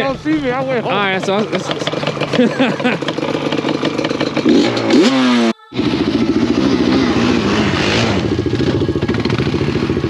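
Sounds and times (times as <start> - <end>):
quad bike engines running: 0.0 - 10.0.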